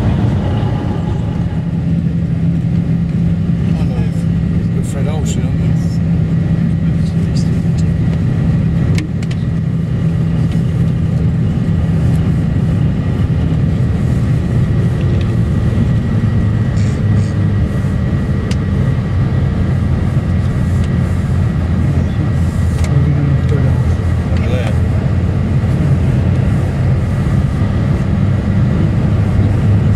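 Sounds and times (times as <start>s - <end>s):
low engine rumble: 0.0s - 29.9s.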